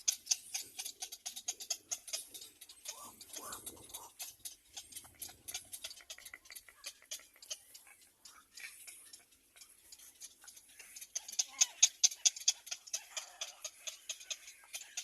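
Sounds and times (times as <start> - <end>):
rapid clicking and ticking: 0.0 - 15.0.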